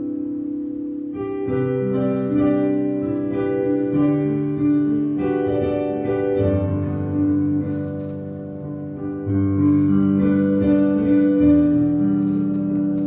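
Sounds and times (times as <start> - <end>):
slow keyboard chords: 0.0 - 13.0.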